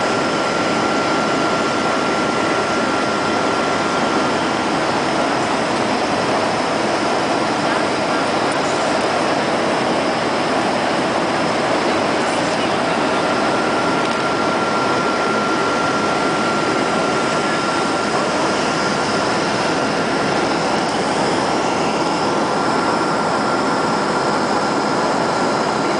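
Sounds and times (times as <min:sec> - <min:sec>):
airflow over fuselage: 0:00.0 - 0:25.9
faint steady whine: 0:00.0 - 0:25.9
jet engines rushing: 0:00.0 - 0:25.9.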